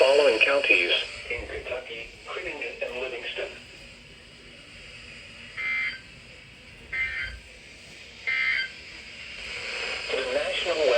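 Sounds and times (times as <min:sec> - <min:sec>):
faint broadcast hiss: 0:00.0 - 0:10.9.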